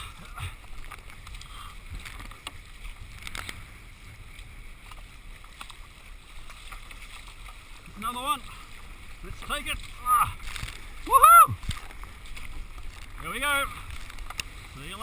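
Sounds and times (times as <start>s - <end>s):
short splashes: 0.0s - 15.0s
water rushing and splashing: 0.0s - 15.0s
wind rumble on microphone: 0.0s - 15.0s.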